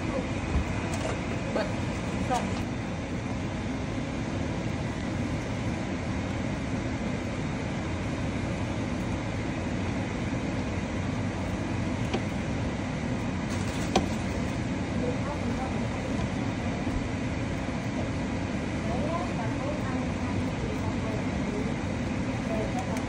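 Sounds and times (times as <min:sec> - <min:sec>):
low rumbling kitchen noise: 0:00.0 - 0:23.0.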